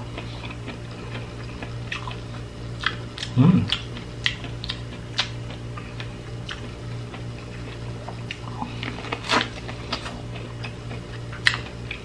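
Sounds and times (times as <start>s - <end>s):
low steady hum: 0.0s - 12.0s
wet mouth clicks chewing: 0.1s - 12.0s.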